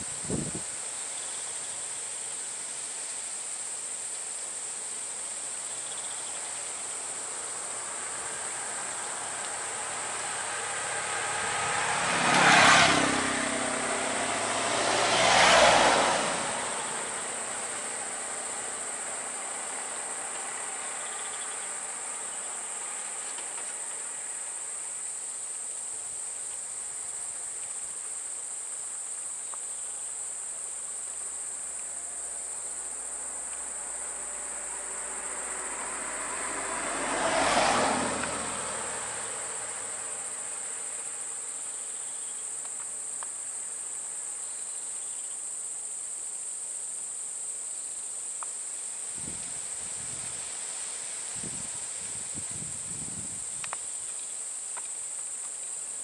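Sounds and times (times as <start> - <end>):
vehicles passing on road: 0.0 - 47.5, 48.2 - 56.0
insects droning: 0.0 - 56.0.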